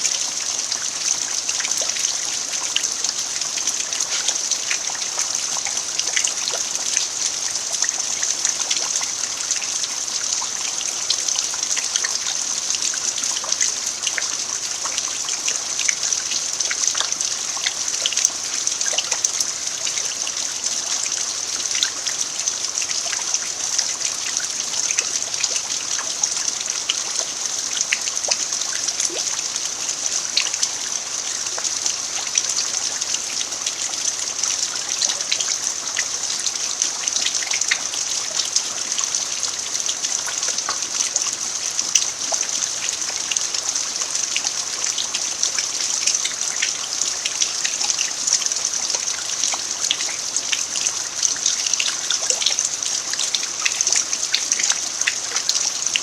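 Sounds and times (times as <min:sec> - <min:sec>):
rain drops ticking: 0:00.0 - 0:56.0
water trickling: 0:00.0 - 0:56.0.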